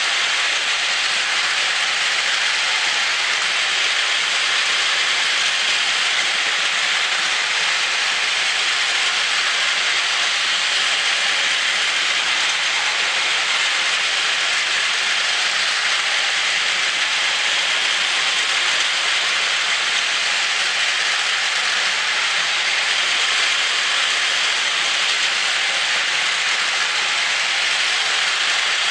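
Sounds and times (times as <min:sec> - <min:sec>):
toy trains running on plastic track: 0:00.0 - 0:28.9.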